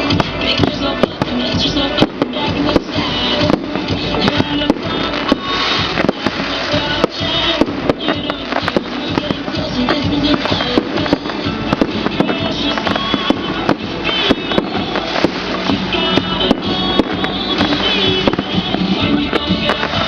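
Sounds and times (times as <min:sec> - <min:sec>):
fireworks cracking and banging: 0:00.0 - 0:20.0
music playing: 0:00.0 - 0:20.0.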